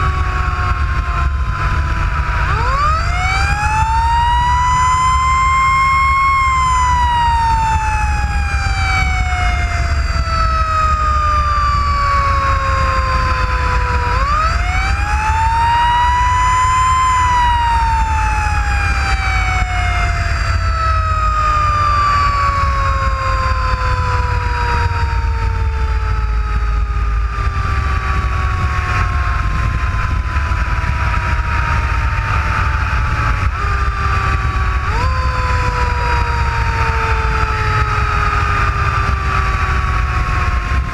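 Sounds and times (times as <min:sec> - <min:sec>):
engine and road rumble: 0:00.0 - 0:40.9
fire engine siren wailing: 0:00.0 - 0:40.9.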